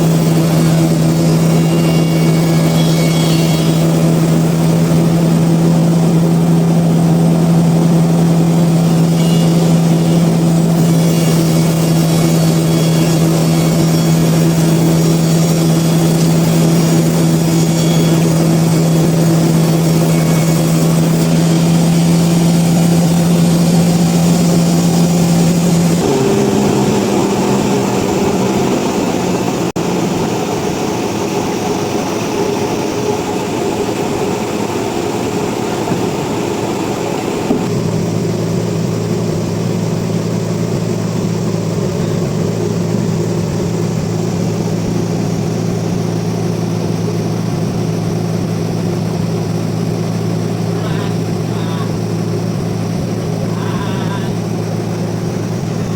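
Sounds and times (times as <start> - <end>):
sawmill machinery droning hum: 0.0 - 55.9.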